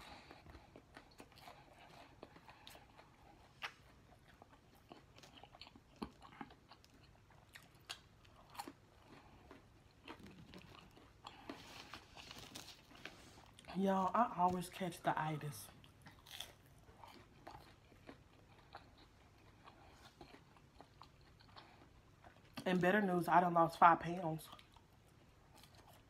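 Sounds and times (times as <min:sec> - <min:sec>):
faint chewing: 0:00.0 - 0:22.8, 0:24.4 - 0:26.0.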